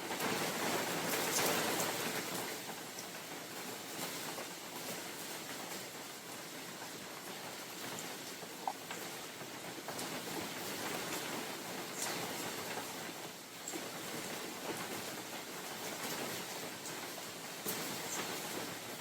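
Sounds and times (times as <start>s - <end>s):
rain falling in forest: 0.0s - 19.0s.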